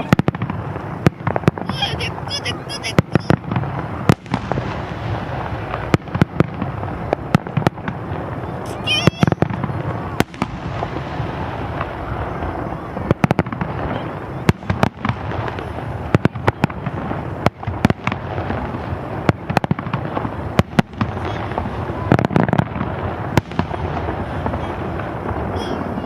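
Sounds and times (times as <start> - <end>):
fireworks bursting with echoes: 0.0 - 26.0.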